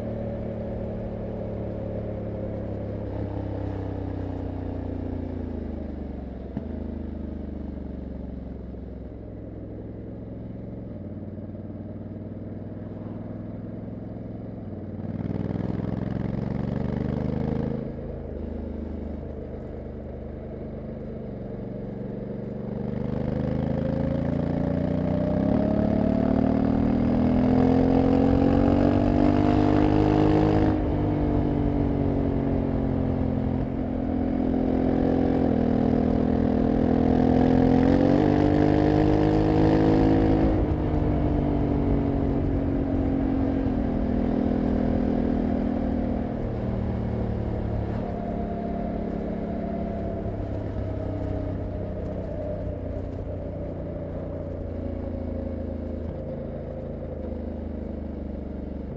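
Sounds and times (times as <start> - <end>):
motorcycle engine accelerating: 0.0 - 58.9.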